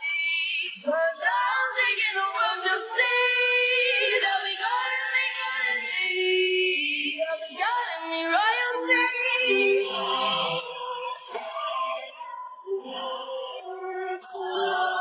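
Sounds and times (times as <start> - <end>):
high-pitched singing with music: 0.0 - 15.0.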